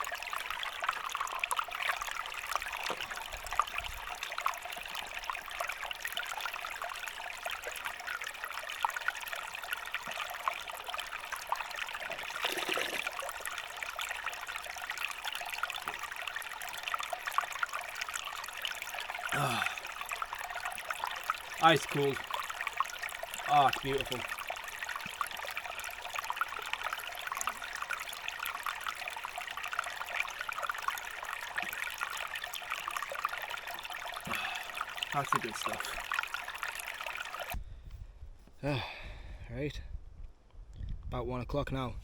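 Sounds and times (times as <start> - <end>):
stream trickling over stones: 0.0 - 37.6.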